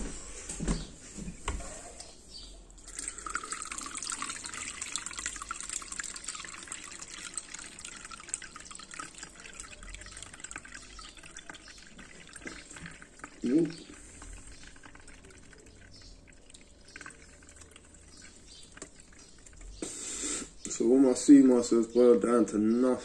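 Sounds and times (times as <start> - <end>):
liquid pattering and trickling: 1.5 - 19.8, 20.4 - 22.8.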